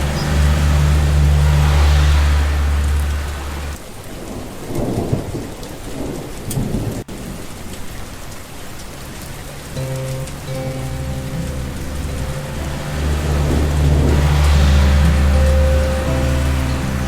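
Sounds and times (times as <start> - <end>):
thunder rumbling: 0.0 - 7.6, 9.8 - 17.0
steady rain: 0.0 - 17.0.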